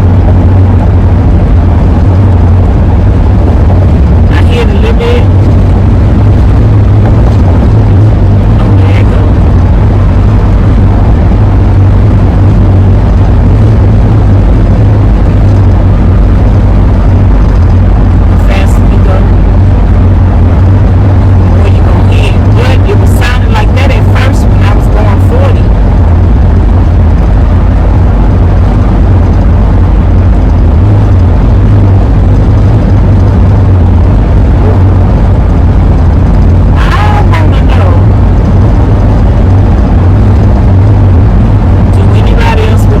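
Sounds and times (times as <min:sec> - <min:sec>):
van road and wind noise: 0:00.0 - 0:43.0.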